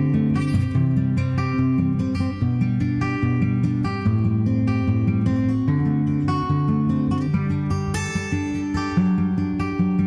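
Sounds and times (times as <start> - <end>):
strummed acoustic guitar chords: 0.0 - 10.0.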